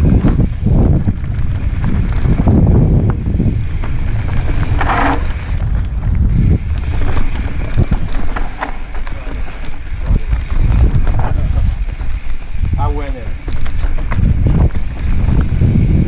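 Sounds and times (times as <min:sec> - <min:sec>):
bike clicks and rattles: 0:00.0 - 0:16.0
bike tyres on dirt: 0:00.0 - 0:16.0
wind buffeting microphone: 0:00.0 - 0:16.0.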